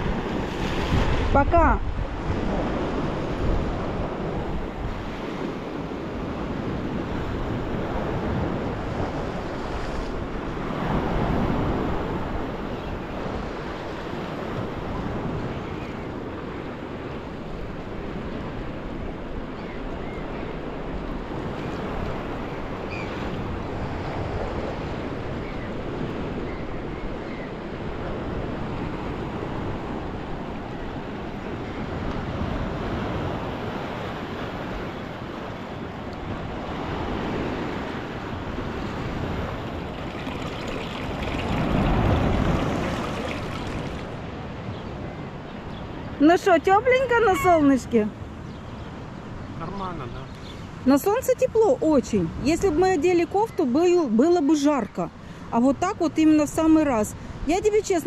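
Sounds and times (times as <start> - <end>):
wind buffeting microphone: 0.0 - 49.7
waves washing onto shore: 0.0 - 53.1.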